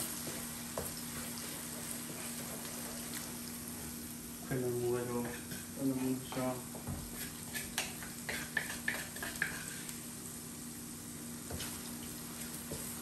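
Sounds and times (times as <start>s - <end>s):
sauce sizzling in a pan: 0.0s - 13.0s.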